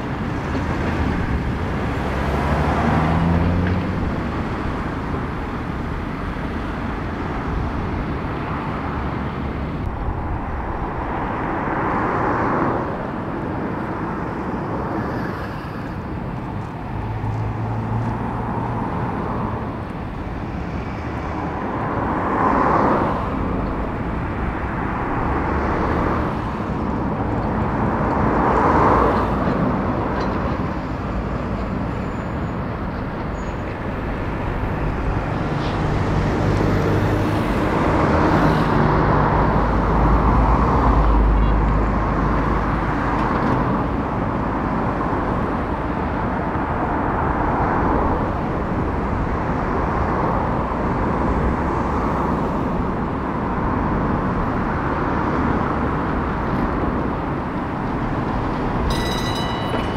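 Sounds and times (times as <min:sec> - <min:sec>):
street traffic: 0:00.0 - 0:59.9
tram rumbling on tracks: 0:00.0 - 0:59.9.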